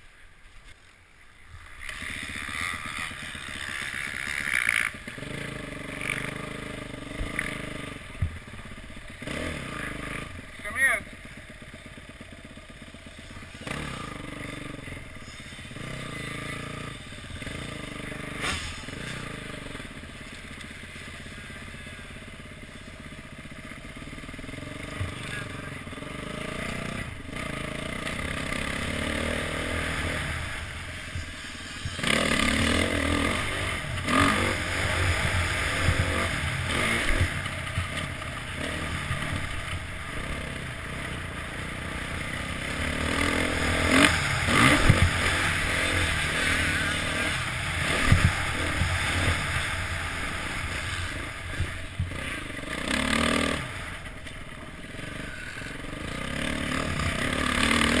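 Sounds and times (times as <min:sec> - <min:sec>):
motocross bike engine revving: 0:01.3 - 0:58.0.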